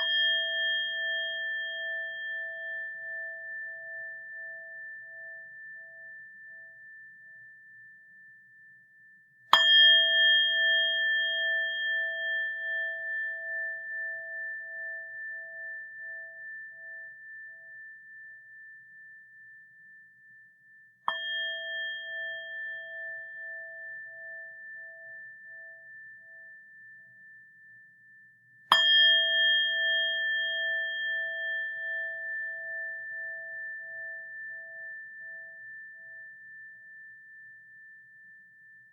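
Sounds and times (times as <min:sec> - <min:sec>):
bowl bell ringing: 0:00.0 - 0:08.8, 0:09.5 - 0:38.9.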